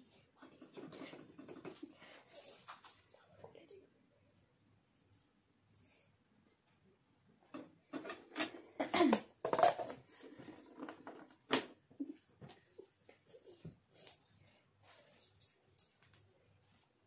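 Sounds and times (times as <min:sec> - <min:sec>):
faint handling sounds: 0:00.0 - 0:06.8, 0:09.9 - 0:17.0.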